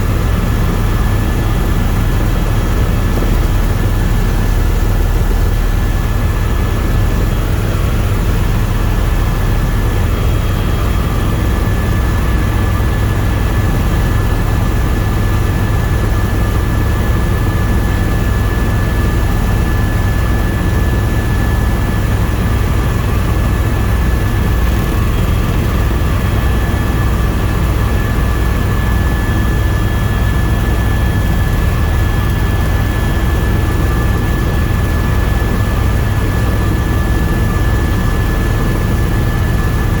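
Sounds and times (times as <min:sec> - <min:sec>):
helicopter rotor and turbine drone: 0:00.0 - 0:40.0
thin steady whine: 0:00.0 - 0:40.0.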